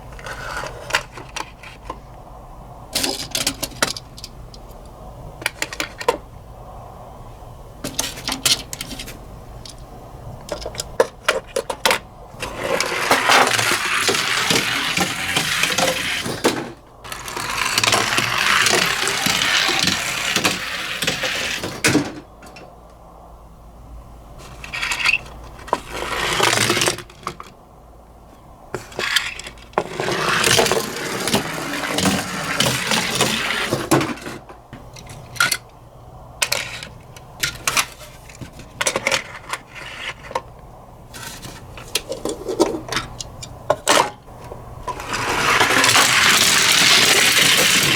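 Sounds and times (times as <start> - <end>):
toy cars rolling down a slope: 0.0 - 2.1, 2.9 - 4.8, 5.4 - 6.3, 7.8 - 9.8, 10.4 - 22.7, 24.4 - 27.6, 28.7 - 35.8, 36.4 - 47.9.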